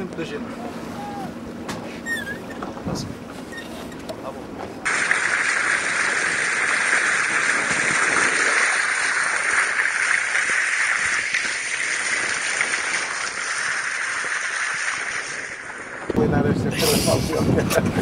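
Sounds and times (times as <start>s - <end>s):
water rushing along boat hull: 0.0s - 18.0s.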